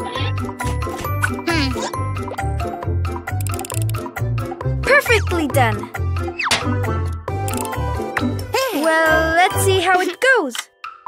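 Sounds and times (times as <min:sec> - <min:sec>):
upbeat cartoon music: 0:00.0 - 0:11.0.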